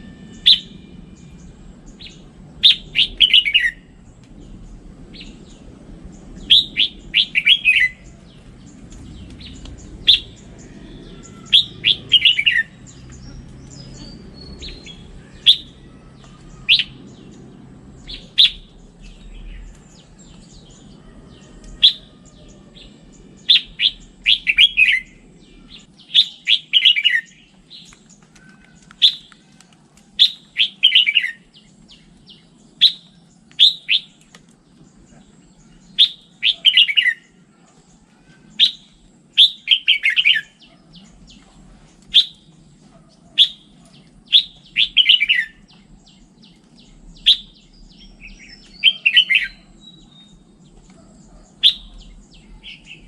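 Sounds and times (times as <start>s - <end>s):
bird singing chirps: 0.0s - 53.0s.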